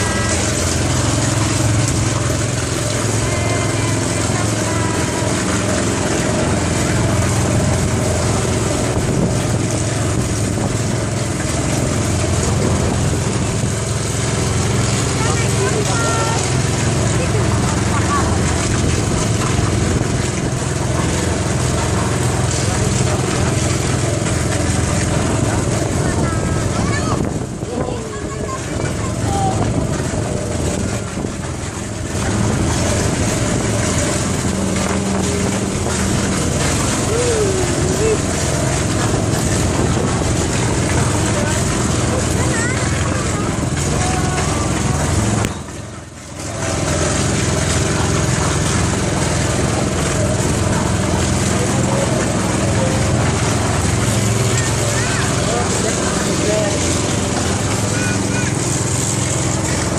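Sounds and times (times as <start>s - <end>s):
small boat motor running: 0.0s - 59.9s.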